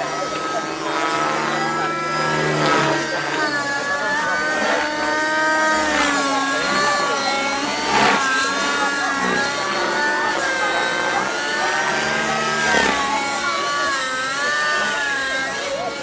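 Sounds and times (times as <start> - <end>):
model helicopter engine and rotor whine: 0.0 - 16.0.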